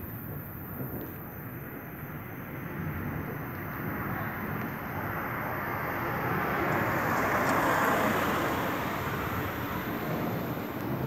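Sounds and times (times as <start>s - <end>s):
jet aircraft passing overhead: 1.4s - 11.0s.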